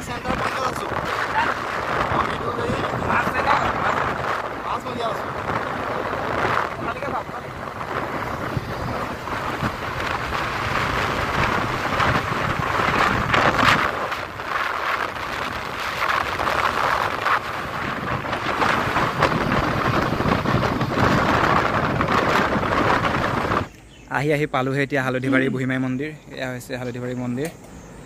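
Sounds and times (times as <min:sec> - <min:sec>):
wind buffeting microphone: 0:00.0 - 0:27.5.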